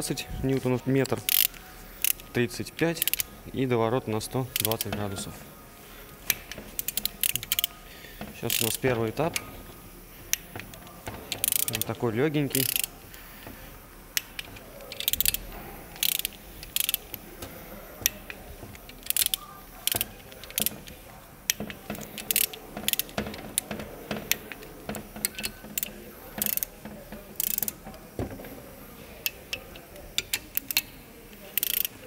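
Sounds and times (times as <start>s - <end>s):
torque wrench ratcheting clicks: 1.0s - 3.3s, 4.2s - 5.3s, 6.2s - 9.7s, 10.3s - 13.5s, 14.2s - 28.2s, 29.2s - 32.0s.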